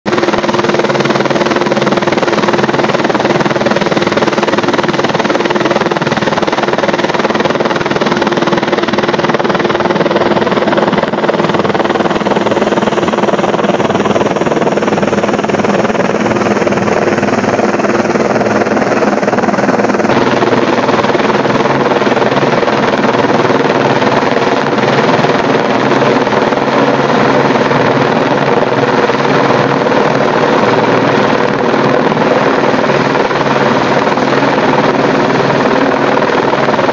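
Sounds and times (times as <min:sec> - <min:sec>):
helicopter flying overhead: 0:00.0 - 0:36.9.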